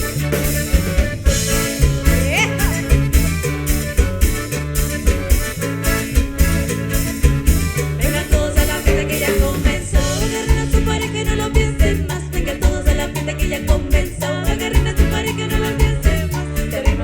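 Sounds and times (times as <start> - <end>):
folk band playing: 0.0 - 17.0.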